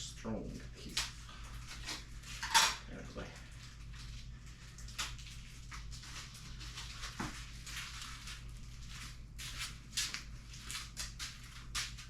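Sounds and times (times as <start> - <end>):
steady low hum: 0.0 - 12.0
rustling and scraping handling noises: 1.1 - 12.0.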